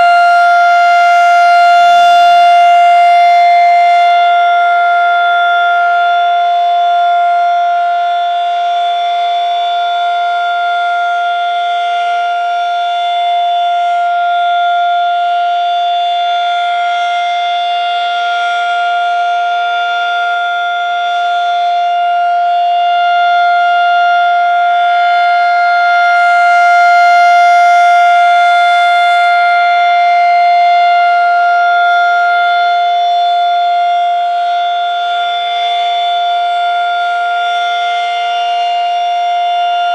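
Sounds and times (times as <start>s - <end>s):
outdoor warning siren two-tone: 0.0s - 39.9s.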